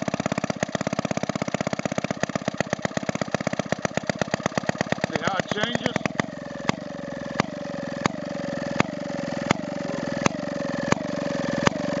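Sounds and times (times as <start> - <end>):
small engine putt-putting: 0.0 - 12.0.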